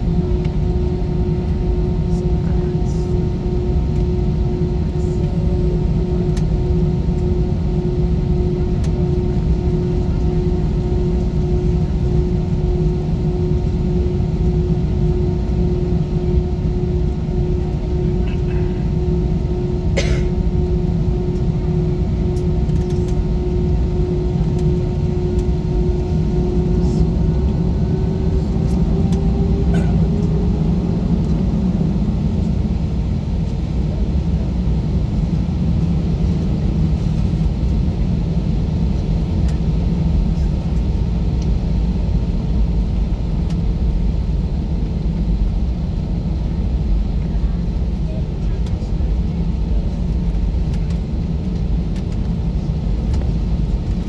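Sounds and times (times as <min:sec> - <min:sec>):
jet engines humming: 0:00.0 - 0:54.0.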